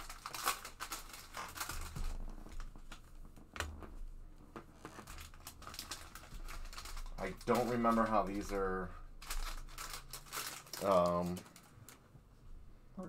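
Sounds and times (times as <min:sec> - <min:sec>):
wrapping tearing and crinkling: 0:00.0 - 0:12.1.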